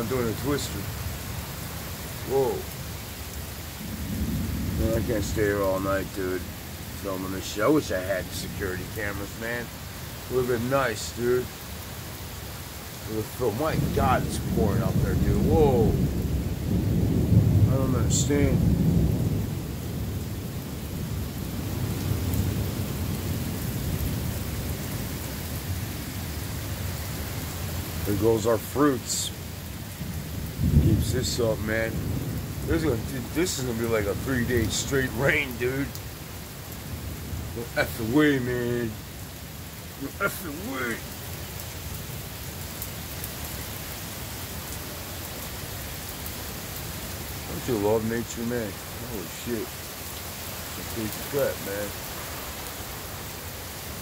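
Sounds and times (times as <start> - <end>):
heavy rain pouring: 0.0 - 54.0
raindrops ticking: 0.0 - 54.0.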